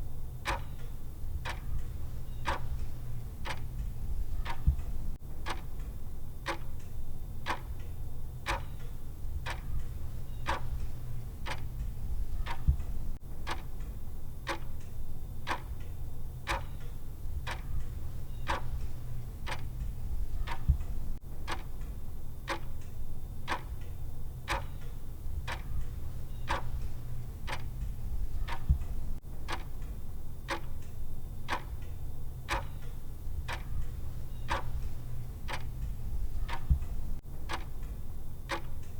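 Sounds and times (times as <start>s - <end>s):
timer ticking: 0.4s - 13.9s, 14.5s - 14.9s, 15.5s - 15.9s, 16.5s - 21.9s, 22.5s - 38.9s.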